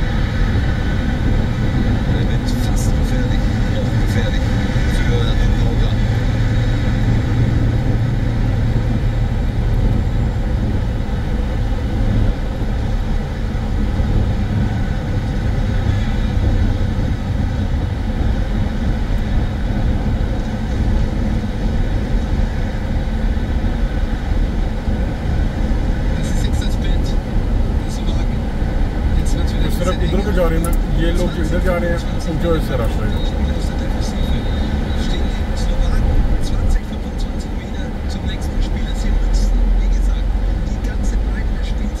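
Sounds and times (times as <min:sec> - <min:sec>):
car cabin road noise: 0:00.0 - 0:42.0.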